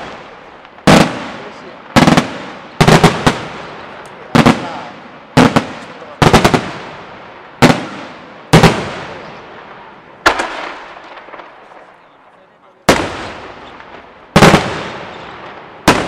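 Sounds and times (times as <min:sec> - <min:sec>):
rolling echo: 0:00.0 - 0:16.0.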